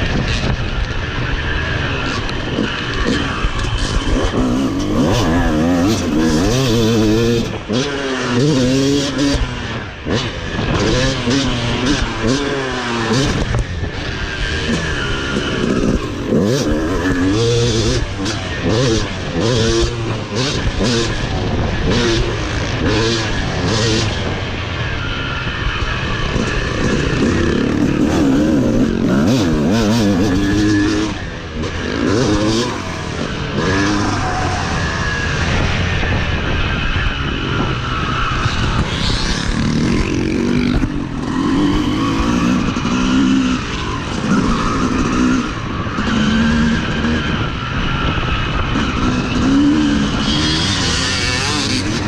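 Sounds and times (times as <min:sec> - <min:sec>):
dirt bike engine revving: 0:00.0 - 0:52.0
rushing wind: 0:00.0 - 0:52.0.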